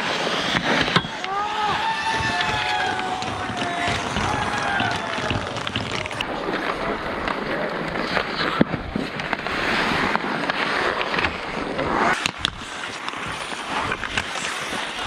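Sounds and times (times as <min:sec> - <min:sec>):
skates scraping across ice: 0:00.0 - 0:15.0
sticks and puck clacking: 0:00.1 - 0:15.0.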